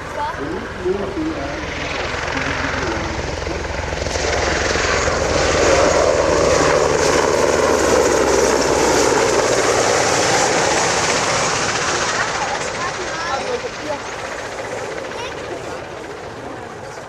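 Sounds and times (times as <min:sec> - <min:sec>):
helicopter turbine whine and rotor: 0:00.0 - 0:17.0.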